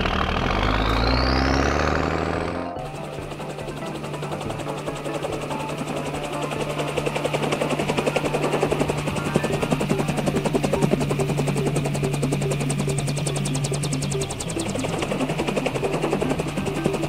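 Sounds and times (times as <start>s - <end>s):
helicopter rotor blades chopping: 0.0s - 17.0s.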